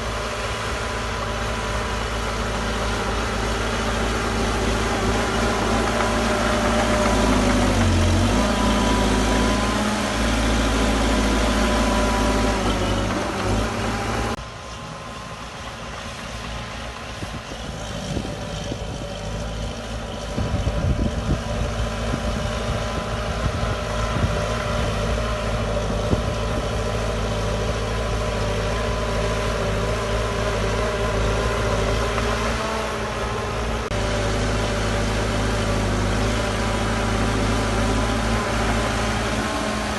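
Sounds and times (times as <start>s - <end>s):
heavy diesel machines running: 0.0s - 39.9s.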